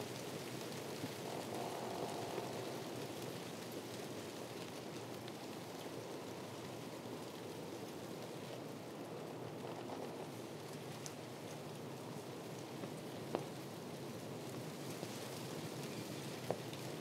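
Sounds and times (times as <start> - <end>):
wind rustling palm fronds: 0.0 - 17.0.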